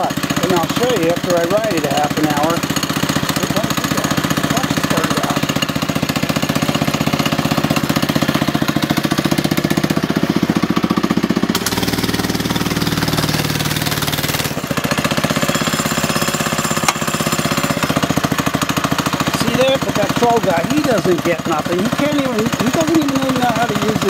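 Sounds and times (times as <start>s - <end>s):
small mini bike engine running: 0.0s - 24.0s.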